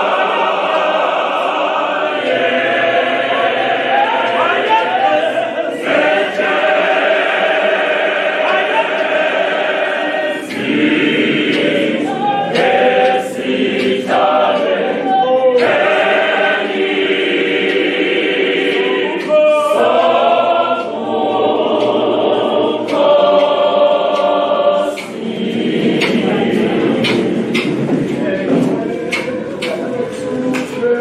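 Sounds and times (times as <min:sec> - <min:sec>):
choir singing a hymn a cappella: 0:00.0 - 0:31.0.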